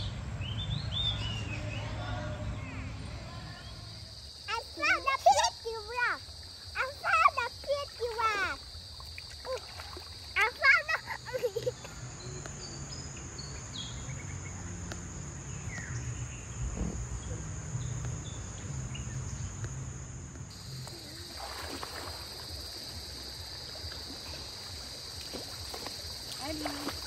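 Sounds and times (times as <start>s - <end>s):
high insect drone: 2.5s - 27.0s.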